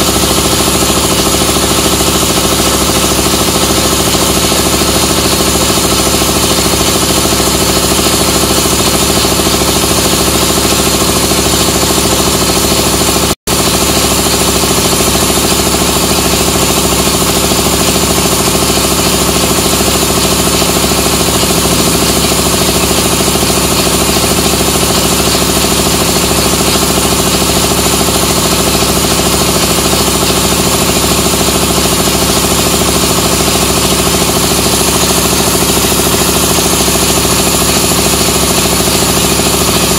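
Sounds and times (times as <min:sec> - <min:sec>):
air compressor running loudly: 0:00.0 - 0:39.9.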